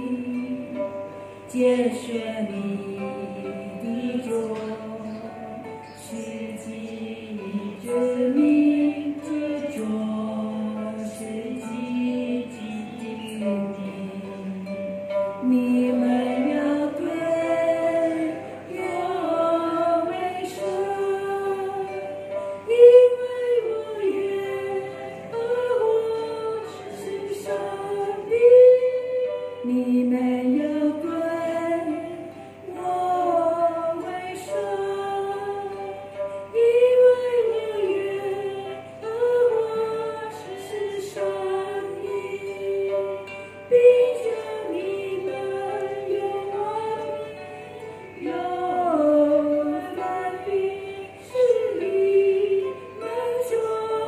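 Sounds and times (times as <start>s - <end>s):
women singing a worship song: 0.0s - 0.8s, 1.5s - 54.0s
plucked harps: 0.0s - 54.0s.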